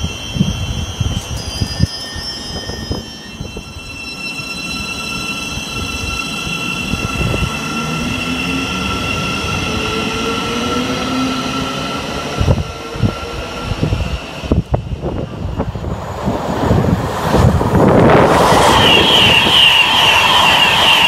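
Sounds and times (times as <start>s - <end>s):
high-pitched whining tones: 0.0s - 15.2s, 17.9s - 21.0s
train rumbling: 0.0s - 21.0s.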